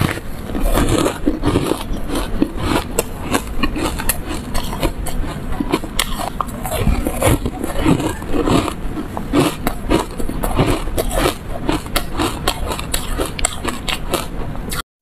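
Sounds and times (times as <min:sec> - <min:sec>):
crisp crunching while chewing: 0:00.0 - 0:14.8.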